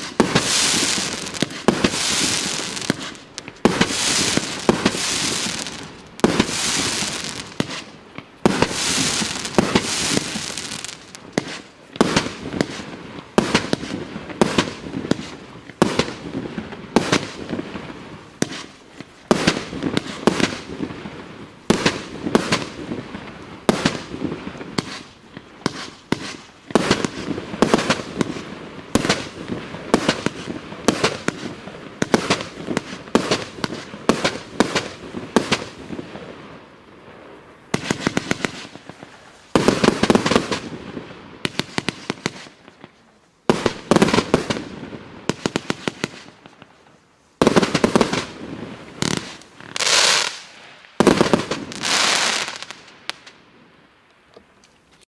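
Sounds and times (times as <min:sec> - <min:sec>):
fireworks launching and bursting: 0:00.0 - 0:53.8.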